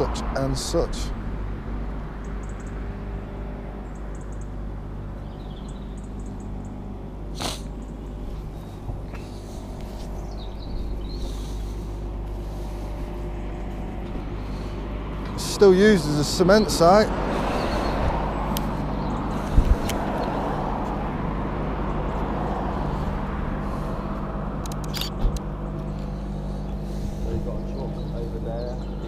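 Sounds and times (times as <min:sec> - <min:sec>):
low mechanical rumble: 0:00.0 - 0:29.0.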